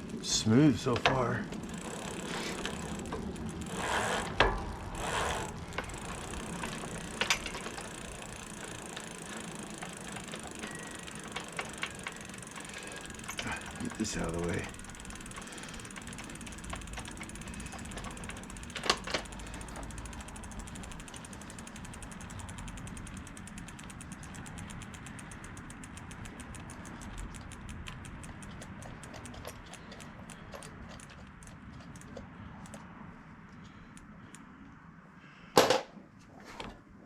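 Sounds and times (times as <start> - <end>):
bike hub ticking: 0.0 - 32.9.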